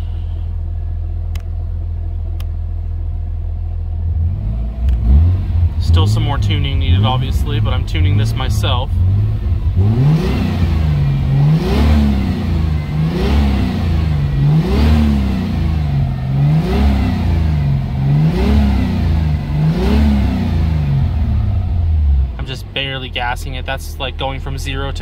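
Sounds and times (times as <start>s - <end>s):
car engine revving: 3.6s - 25.0s.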